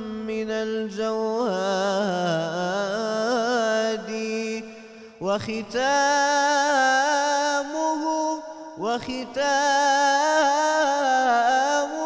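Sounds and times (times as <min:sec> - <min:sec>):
man singing hymn into microphone: 0:00.0 - 0:12.0.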